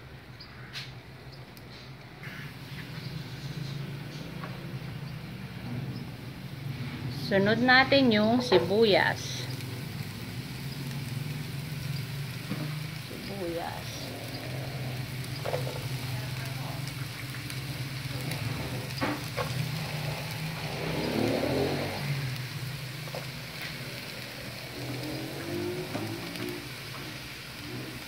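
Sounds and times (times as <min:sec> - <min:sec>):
onion sizzling in frying pan: 0:01.5 - 0:28.0.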